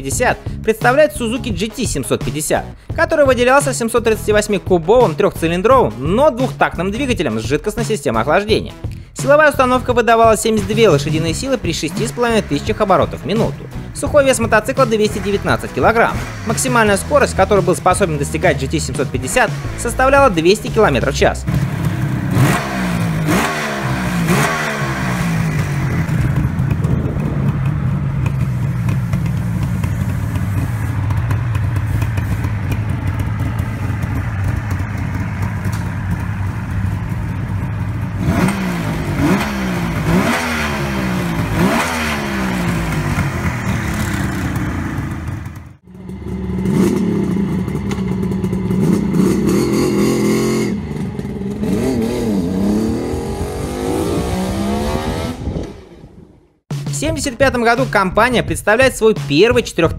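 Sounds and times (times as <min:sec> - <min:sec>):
motorcycle engine idling and revving: 0:00.0 - 0:57.2.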